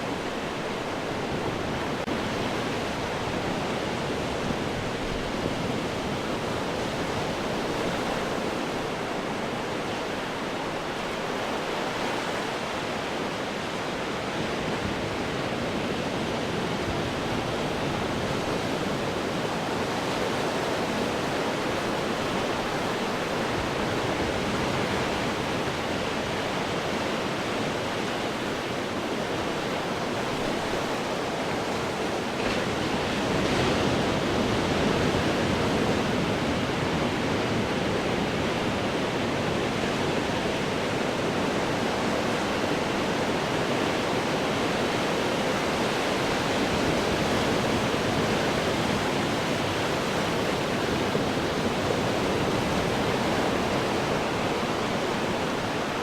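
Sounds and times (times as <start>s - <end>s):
ocean waves breaking on rocks: 0.1s - 56.0s.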